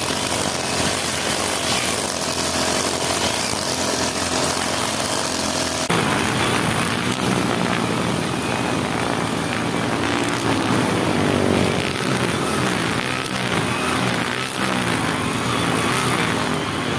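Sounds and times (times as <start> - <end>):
brush cutter engine running: 0.0 - 16.9.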